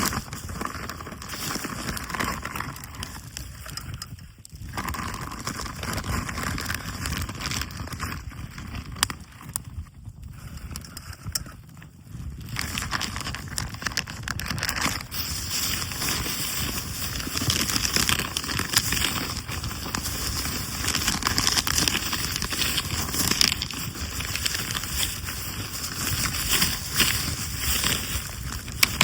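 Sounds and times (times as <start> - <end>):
campfire crackling and popping: 0.0 - 11.8, 12.4 - 29.0.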